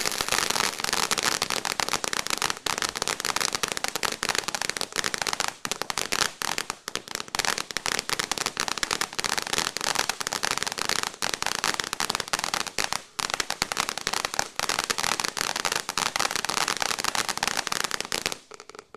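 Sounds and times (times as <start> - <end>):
firework fountain crackling: 0.0 - 18.9.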